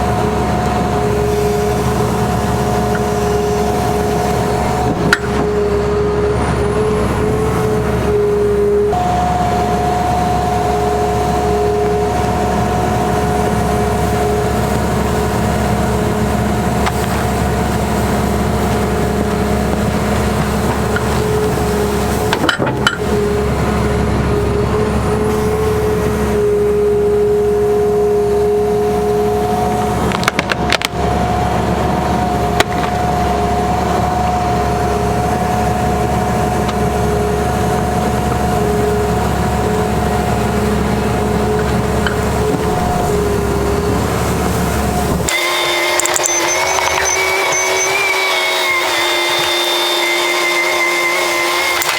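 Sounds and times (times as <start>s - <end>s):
excavator diesel engine running: 0.0s - 51.9s
hydraulic whine: 0.0s - 51.9s.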